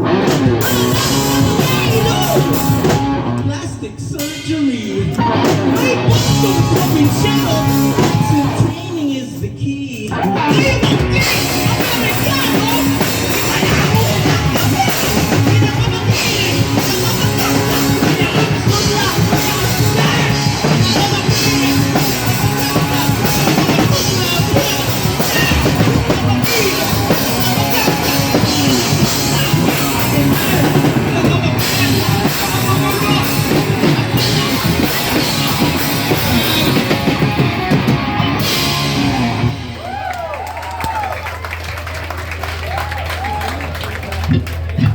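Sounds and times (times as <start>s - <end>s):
drum kit: 0.0s - 9.0s, 9.9s - 41.1s
person singing: 0.0s - 39.5s
rock band playing live: 0.0s - 41.4s.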